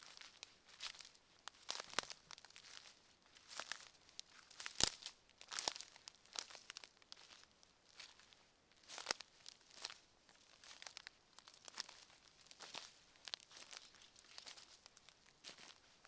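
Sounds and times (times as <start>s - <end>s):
footsteps crunching on forest path: 0.0s - 16.0s.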